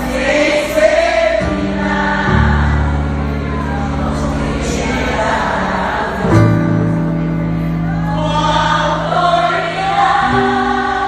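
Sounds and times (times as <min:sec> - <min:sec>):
voices singing: 0:00.0 - 0:06.9, 0:07.9 - 0:11.0
band holding sustained chords: 0:00.0 - 0:11.0.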